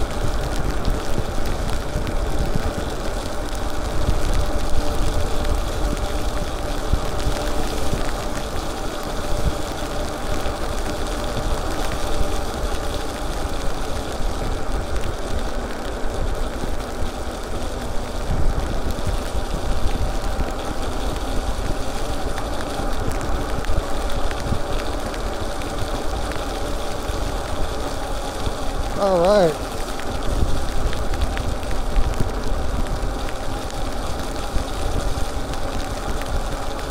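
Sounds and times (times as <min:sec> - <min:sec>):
tyre hiss on wet road: 0:00.0 - 0:36.9.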